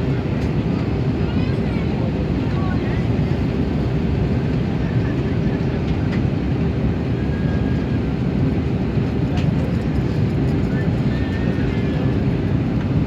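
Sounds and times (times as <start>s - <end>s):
airliner engines and rushing air: 0.0s - 13.0s.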